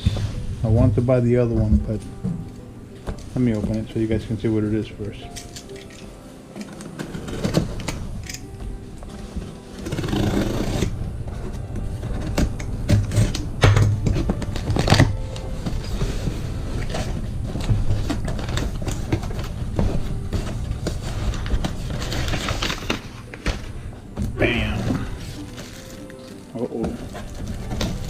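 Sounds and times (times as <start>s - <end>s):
cardboard and plastic rustling: 0.0s - 28.0s.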